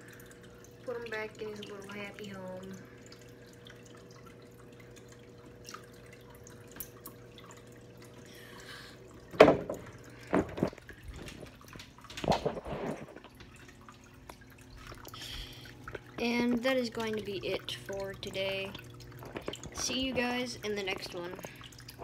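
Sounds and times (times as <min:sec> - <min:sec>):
low steady hum: 0:00.0 - 0:22.0
water dripping and trickling: 0:00.0 - 0:22.0.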